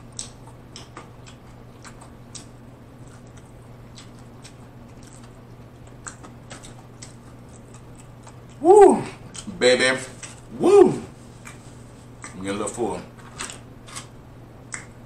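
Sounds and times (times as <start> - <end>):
person chewing food: 0.0 - 12.4
low electrical hum: 0.0 - 15.0.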